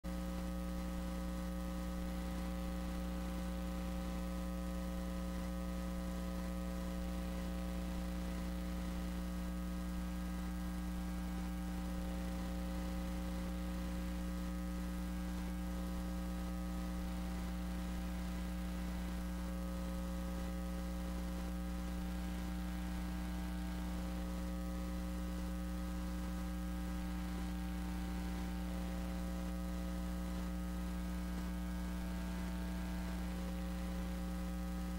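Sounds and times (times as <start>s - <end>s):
electrical mains hum: 0.0s - 34.9s.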